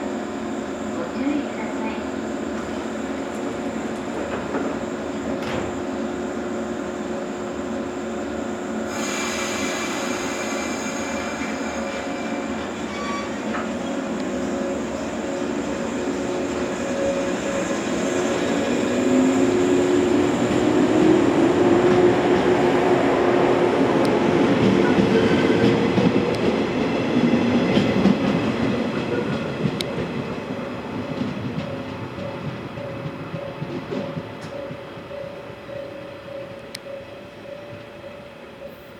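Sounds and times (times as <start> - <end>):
electric train passing: 0.0 - 38.9.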